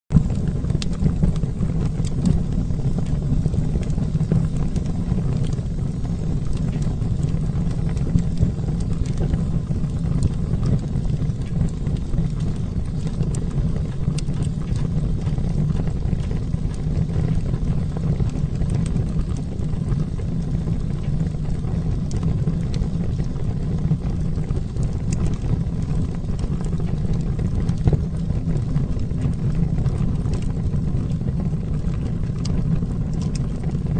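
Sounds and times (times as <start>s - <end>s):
wood fire roaring and crackling: 0.1s - 33.9s.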